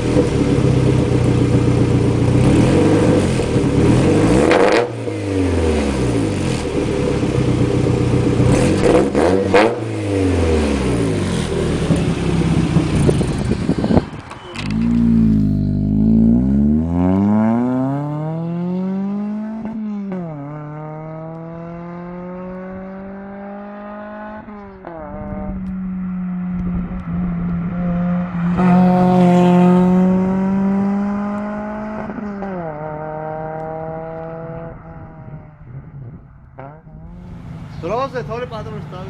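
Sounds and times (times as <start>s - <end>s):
car engine revving through gears: 0.0s - 35.5s.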